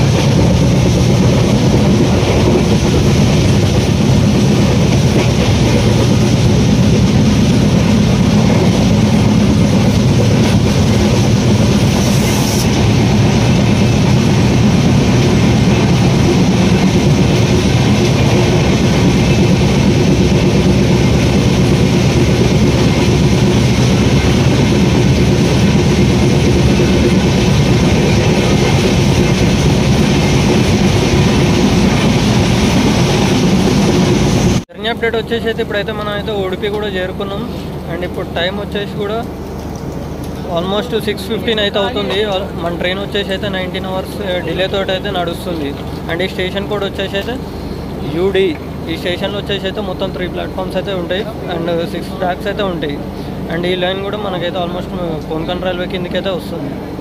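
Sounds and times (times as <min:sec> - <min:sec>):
train running at speed: 0:00.0 - 0:57.0.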